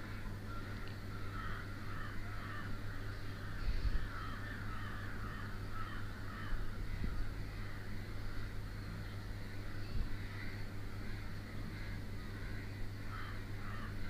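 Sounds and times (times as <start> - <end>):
crows cawing: 0.0 - 14.0
low steady hum: 0.0 - 14.0.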